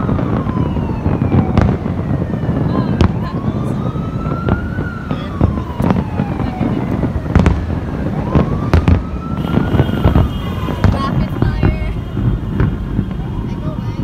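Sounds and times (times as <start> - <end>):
fireworks bangs: 0.0 - 14.0
rumble of distant blasts: 0.0 - 14.0
siren wailing: 0.0 - 14.0.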